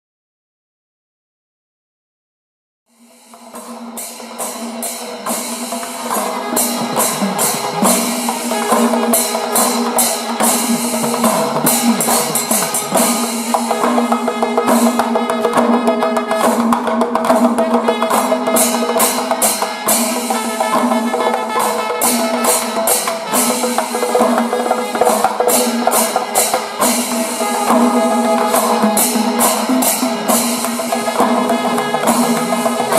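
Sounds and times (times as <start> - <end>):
percussion-led music with drone: 3.0 - 32.9.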